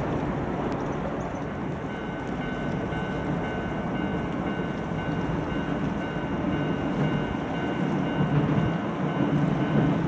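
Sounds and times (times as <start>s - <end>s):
train wheels rumbling on bridge: 0.0s - 10.0s.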